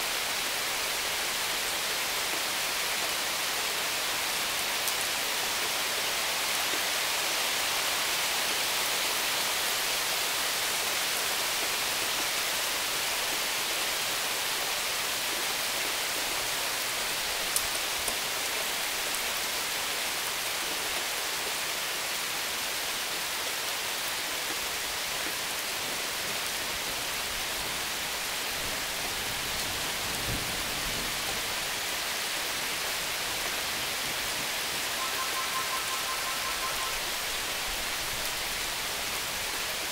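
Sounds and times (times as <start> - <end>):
rain falling on roof and pavement: 0.0 - 39.9.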